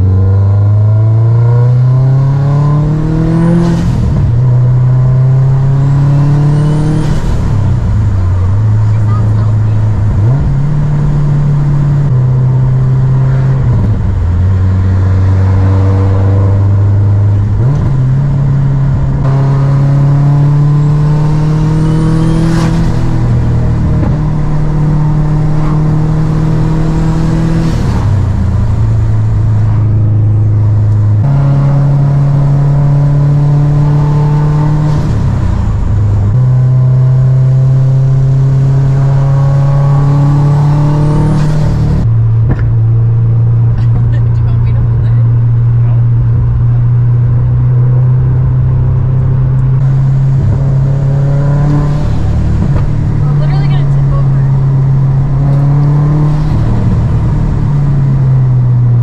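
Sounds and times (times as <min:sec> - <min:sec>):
car engine from inside cabin: 0:00.0 - 0:59.0.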